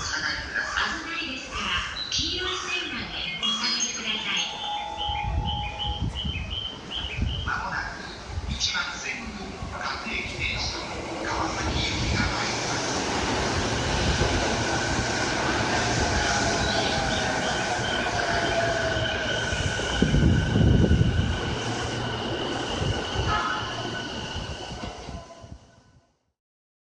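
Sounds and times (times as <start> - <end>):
electric train whine: 0.1 - 26.0.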